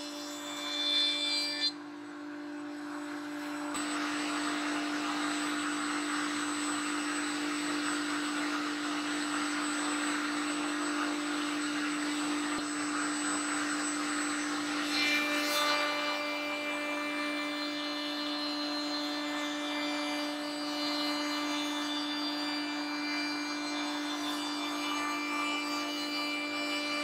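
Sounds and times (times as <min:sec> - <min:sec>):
router cutting wood edge: 0:00.0 - 0:27.0.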